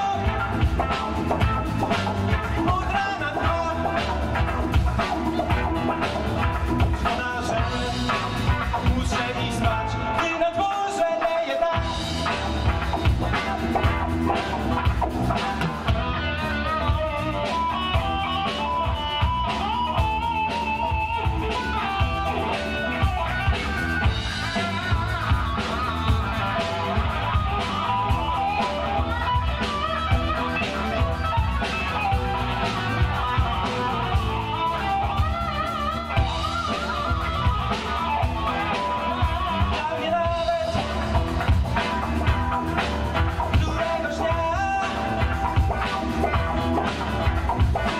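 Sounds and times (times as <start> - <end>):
drum kit beat: 0.0 - 47.9
electric guitars: 0.0 - 47.9.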